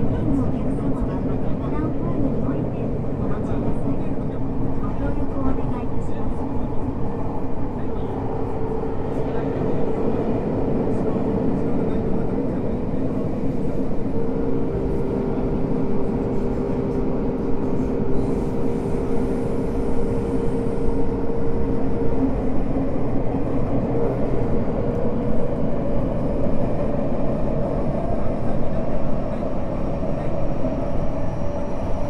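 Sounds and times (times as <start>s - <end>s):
train wheels rumbling on track: 0.0s - 32.0s.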